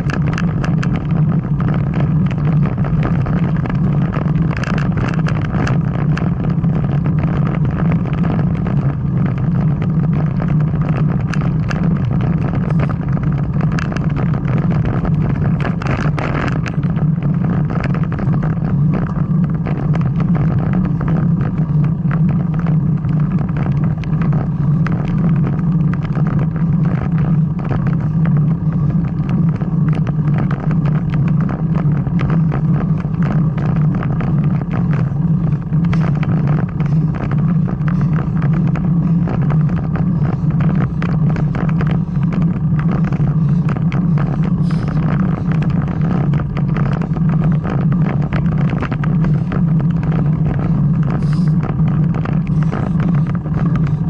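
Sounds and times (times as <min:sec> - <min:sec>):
road and wind rumble: 0:00.0 - 0:54.0.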